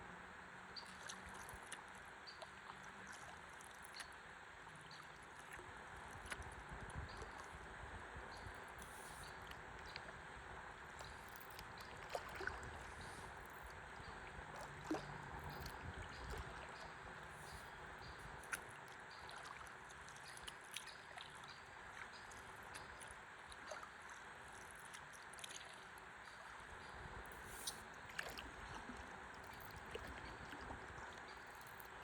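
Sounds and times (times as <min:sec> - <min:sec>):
river water flowing gently: 0:00.0 - 0:32.0
small water drips and splashes: 0:00.6 - 0:32.0.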